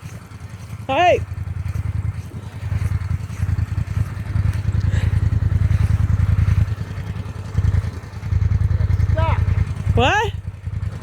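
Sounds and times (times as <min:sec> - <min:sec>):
tires spinning on ice: 0:00.0 - 0:11.0
vehicle engine revving: 0:00.0 - 0:11.0.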